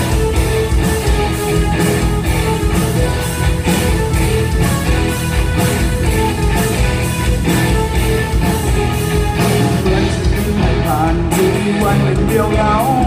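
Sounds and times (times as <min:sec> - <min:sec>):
distorted electric guitar: 0:00.0 - 0:13.0
rock band playing: 0:00.0 - 0:13.0.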